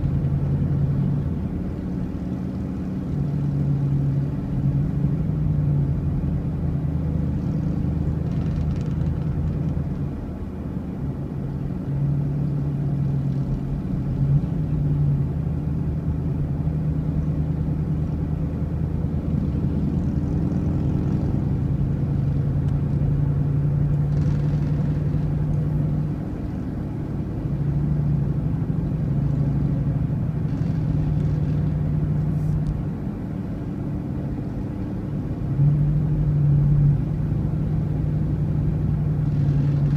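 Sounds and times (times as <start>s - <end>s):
road rumble: 0.0s - 39.9s
vehicle engine drone: 0.0s - 39.9s.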